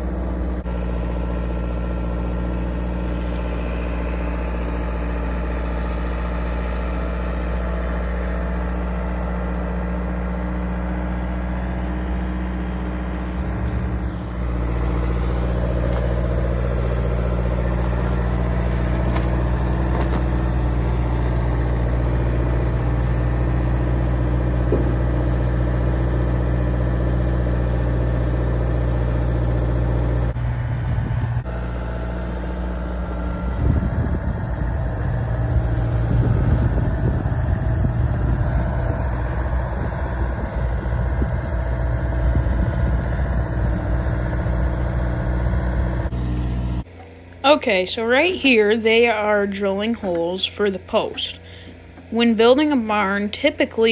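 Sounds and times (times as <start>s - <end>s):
diesel engine humming: 0.0s - 53.9s.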